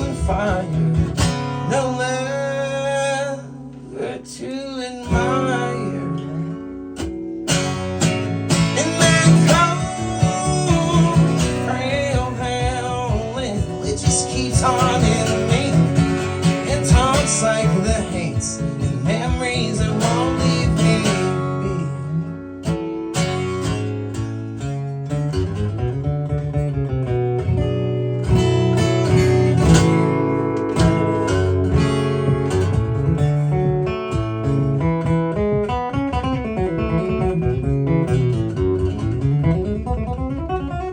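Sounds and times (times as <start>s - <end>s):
strummed acoustic guitar: 0.0s - 40.9s.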